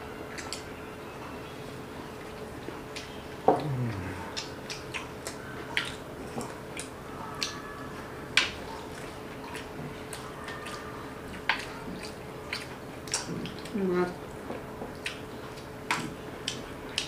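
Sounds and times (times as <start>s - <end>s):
faint steady hum: 0.0s - 17.0s
wet eating clicks and smacks: 0.3s - 0.7s, 2.2s - 17.0s.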